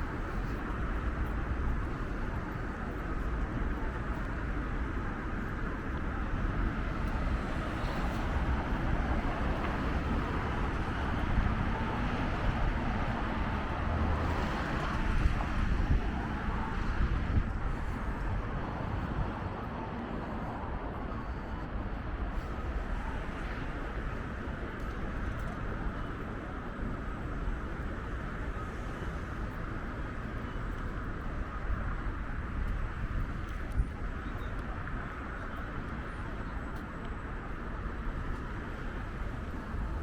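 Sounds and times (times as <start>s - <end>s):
road traffic hum: 0.0s - 40.0s
vehicles passing: 0.0s - 40.0s.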